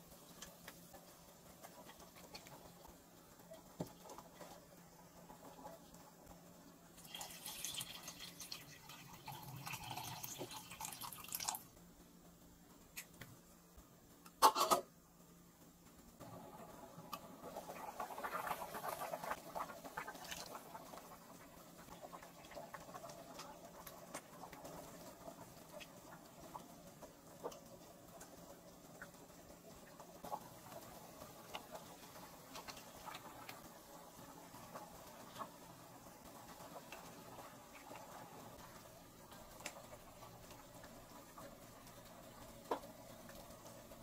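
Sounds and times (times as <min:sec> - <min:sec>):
broth bubbling in pot: 0:00.0 - 0:44.0.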